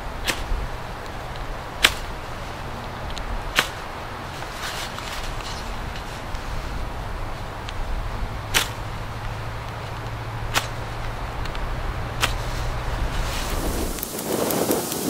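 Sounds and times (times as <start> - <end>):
sharp cracks: 0.0 - 15.0
wind buffeting microphone: 0.0 - 15.0.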